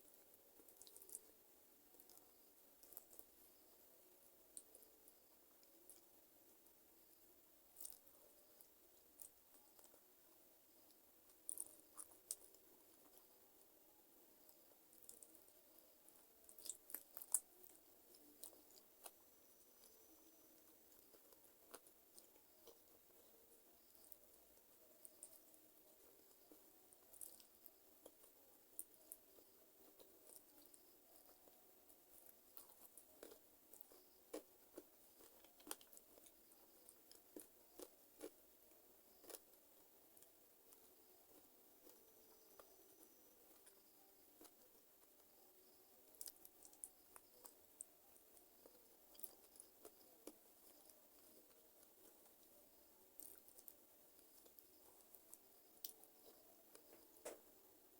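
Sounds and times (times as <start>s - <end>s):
person chewing and crunching: 0.6s - 1.3s, 1.9s - 3.3s, 7.8s - 10.0s, 10.9s - 13.3s, 16.4s - 20.0s, 20.6s - 45.3s, 46.1s - 57.4s.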